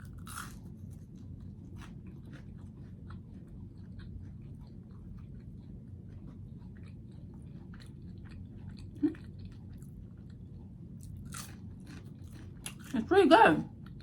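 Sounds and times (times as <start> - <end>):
chewing green beans: 0.0 - 13.1.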